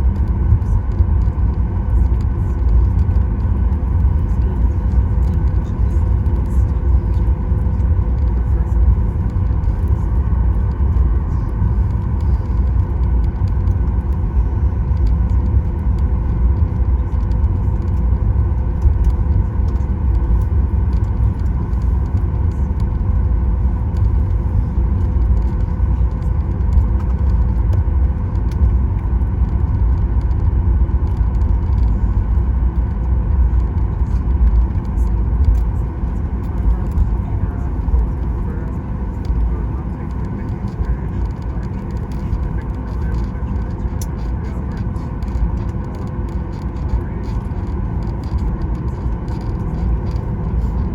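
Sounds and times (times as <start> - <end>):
aircraft engines low rumble: 0.0 - 50.9
steady cabin hum: 0.0 - 50.9.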